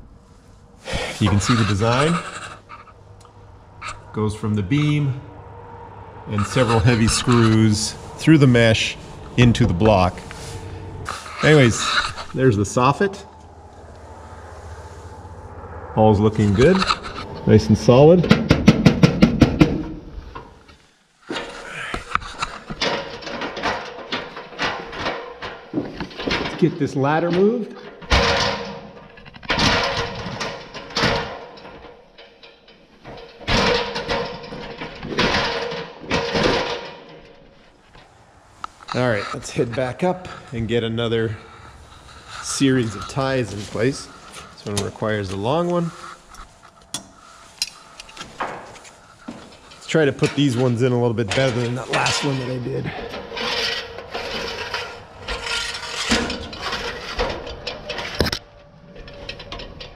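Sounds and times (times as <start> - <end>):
metal ladder clanking: 0.9 - 5.2, 6.3 - 13.5, 16.1 - 59.9.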